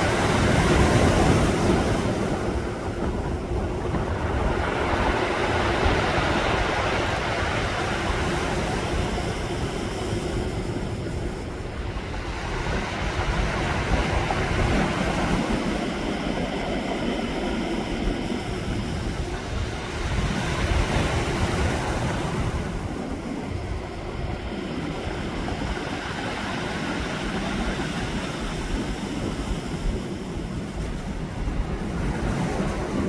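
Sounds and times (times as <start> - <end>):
waves breaking on shore: 0.0 - 33.0
wind on microphone: 0.0 - 33.0.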